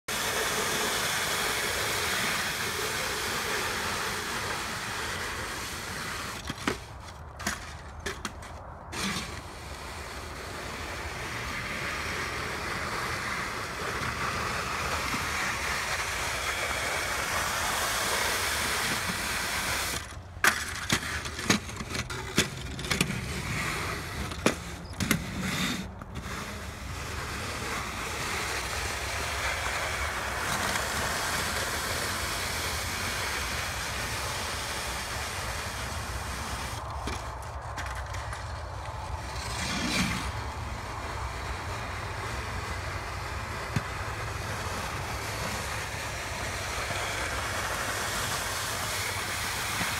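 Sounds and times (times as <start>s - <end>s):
snow shovel scraping ice: 0.1s - 49.9s.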